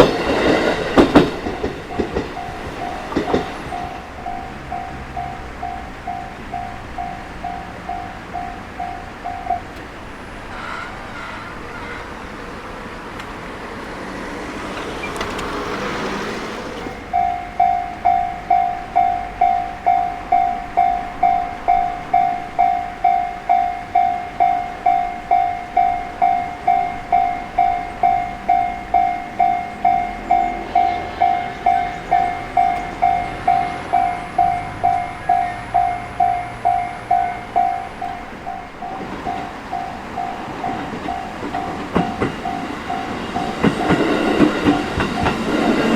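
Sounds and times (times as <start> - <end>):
level-crossing alarm ringing: 0.0 - 11.4, 16.8 - 45.9
train rail noise rushing: 0.0 - 45.9.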